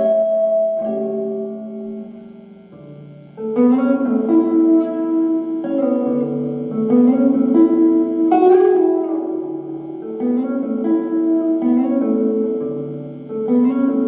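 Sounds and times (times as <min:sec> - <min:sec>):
electric guitar chords with reverb: 0:00.0 - 0:14.0.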